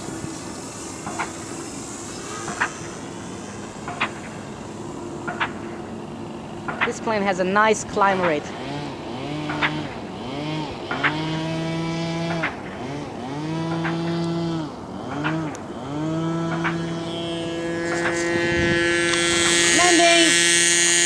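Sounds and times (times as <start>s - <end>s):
electric motor and propeller whining: 0.0s - 21.0s.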